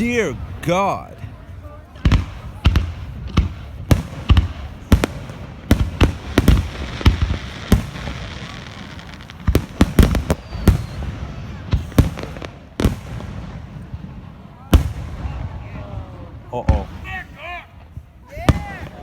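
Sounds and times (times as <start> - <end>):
fireworks bangs and booms: 0.0 - 19.0.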